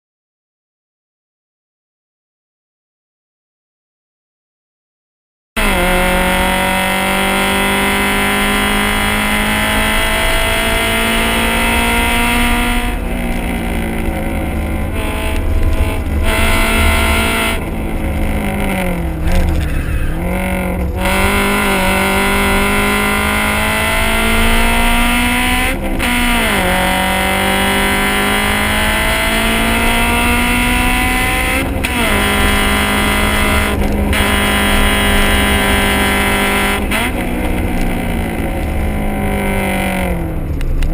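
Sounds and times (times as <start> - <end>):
car engine at high revs: 5.6 - 40.9.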